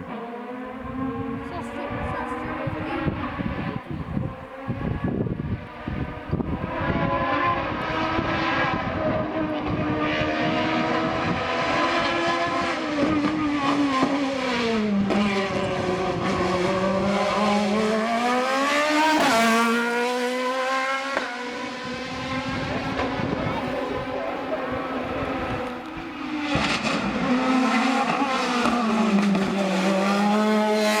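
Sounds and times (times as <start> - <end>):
race car engine at high revs: 0.0 - 31.0.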